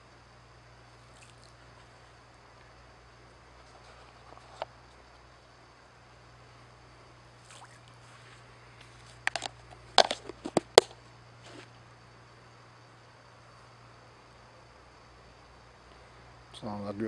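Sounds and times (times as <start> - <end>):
faint steady background noise: 0.0 - 17.0.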